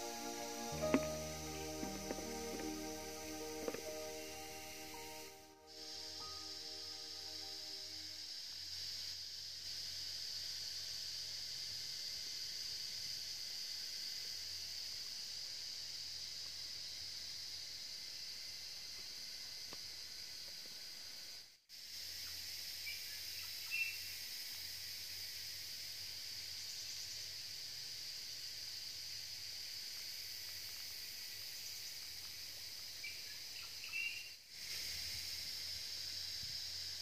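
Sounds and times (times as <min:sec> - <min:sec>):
faint insect chirps: 0:00.0 - 0:37.0
high-pitched insect chorus: 0:00.0 - 0:37.0.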